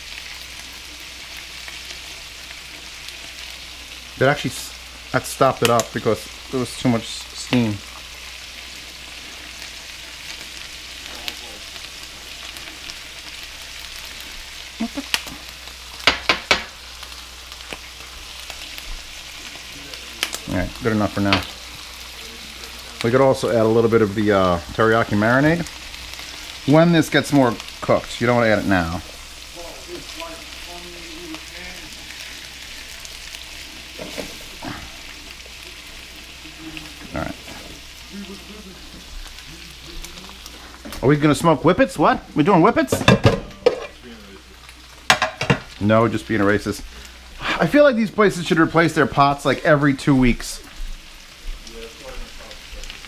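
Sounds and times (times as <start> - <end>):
vegetables sizzling in a pan: 0.0 - 53.0.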